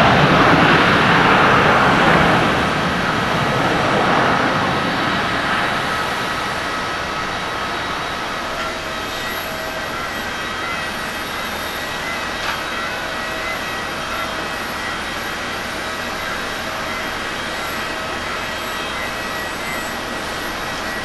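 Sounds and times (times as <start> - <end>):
jet airliner rolling on runway: 0.0 - 21.0
jet engines hum and whine: 0.0 - 21.0.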